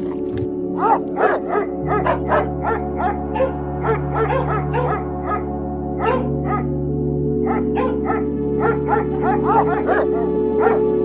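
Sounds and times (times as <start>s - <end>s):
background music with held notes: 0.0s - 11.0s
dog barking: 0.8s - 6.8s, 7.4s - 10.9s.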